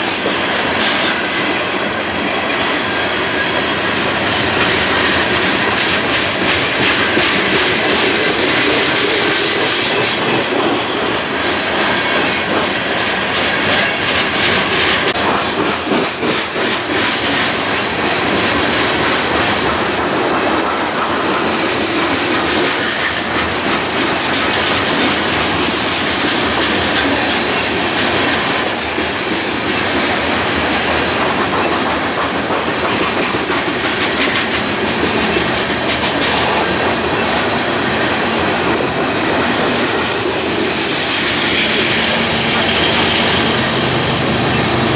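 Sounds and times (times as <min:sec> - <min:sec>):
train wheels clicking over rail joints: 0:00.0 - 0:44.9.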